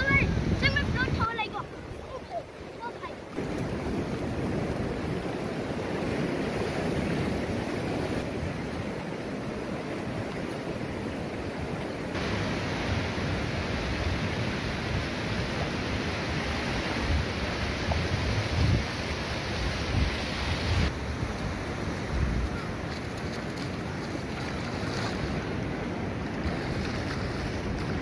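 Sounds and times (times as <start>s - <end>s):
wind on microphone: 0.0s - 2.4s, 3.4s - 28.0s
surf washing onto beach: 0.0s - 28.0s.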